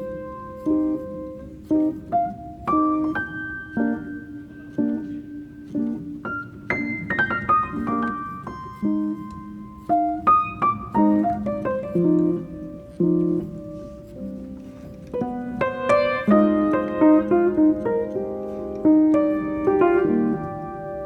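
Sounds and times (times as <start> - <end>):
piano playing chords: 0.0 - 21.0.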